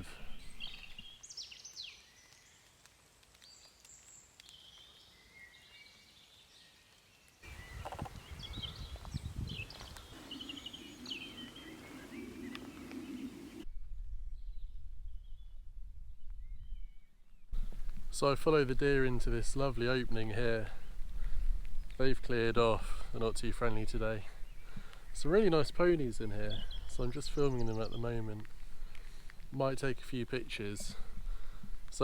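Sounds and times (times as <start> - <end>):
small birds chirping and trilling: 0.0 - 2.8, 3.4 - 13.6, 18.9 - 32.0.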